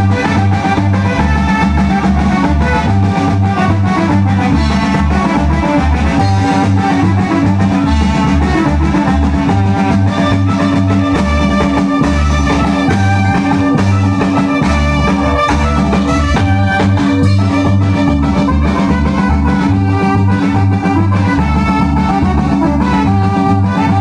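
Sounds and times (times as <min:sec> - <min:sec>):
band music with drums and bass: 0:00.0 - 0:24.0.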